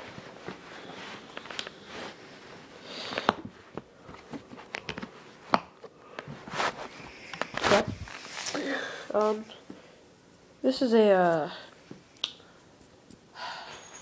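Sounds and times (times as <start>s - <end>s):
soft rustling: 0.0s - 5.6s, 6.2s - 12.1s.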